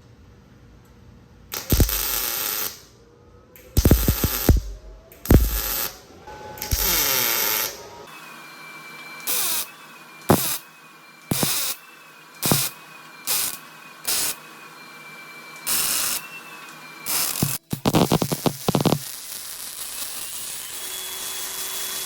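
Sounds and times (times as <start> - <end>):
power tool whining in bursts: 1.6 - 2.8, 3.8 - 11.8, 12.4 - 22.0.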